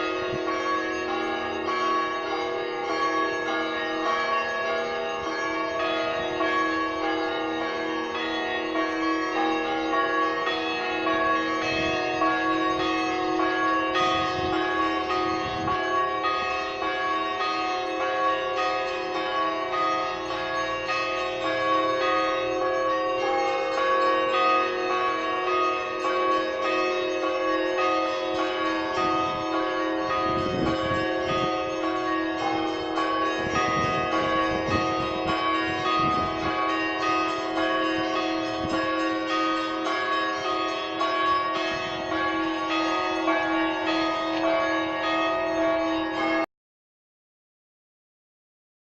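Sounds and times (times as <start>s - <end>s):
church bells pealing: 0.0s - 46.5s.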